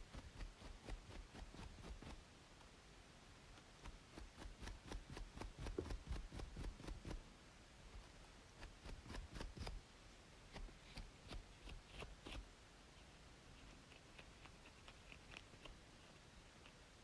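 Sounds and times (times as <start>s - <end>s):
scratching scalp: 0.0s - 2.2s, 3.5s - 7.2s, 7.9s - 9.8s, 10.5s - 17.0s
faint white-noise hiss: 0.0s - 17.0s.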